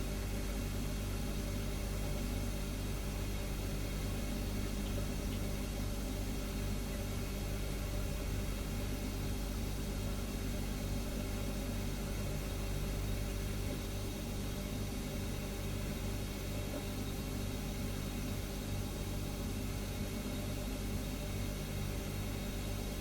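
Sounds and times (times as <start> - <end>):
refrigerator humming: 0.0 - 23.0.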